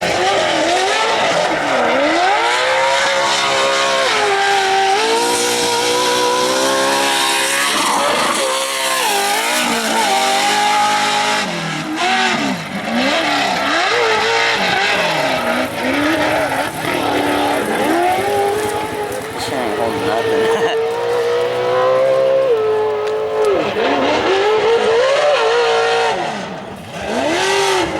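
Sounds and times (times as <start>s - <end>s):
truck engine revving hard: 0.0s - 27.9s.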